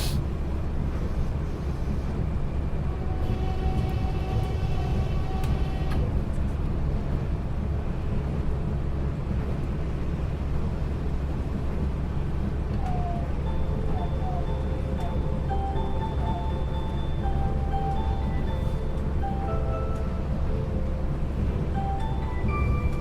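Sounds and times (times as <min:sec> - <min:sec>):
monorail running gear rumble: 0:00.0 - 0:23.0.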